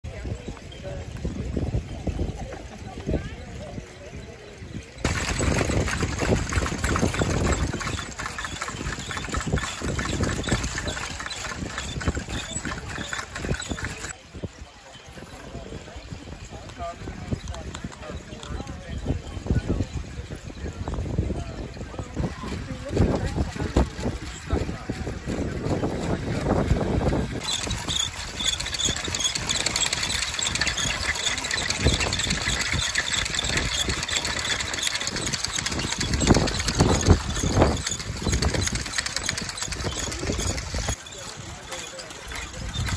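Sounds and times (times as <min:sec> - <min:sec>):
wind rumbling on microphone: 0:00.0 - 0:42.9
whirligigs clacking and knocking: 0:05.0 - 0:14.2, 0:15.1 - 0:42.9.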